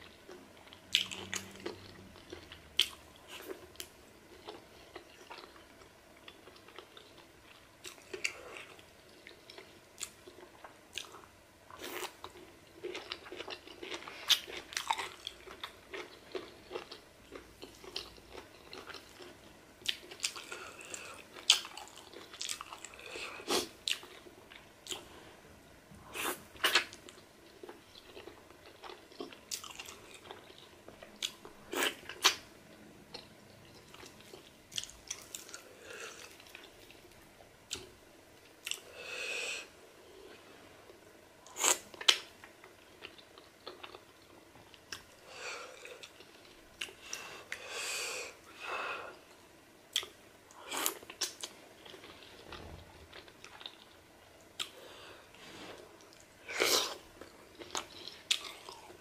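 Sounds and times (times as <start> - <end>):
person chewing food: 0.0 - 25.3, 26.0 - 59.0.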